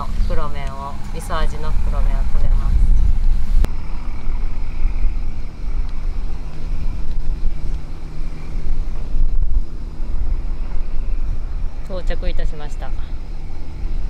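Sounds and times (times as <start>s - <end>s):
low engine-like drone: 0.0s - 14.0s
wind rumbling on microphone: 0.0s - 14.0s.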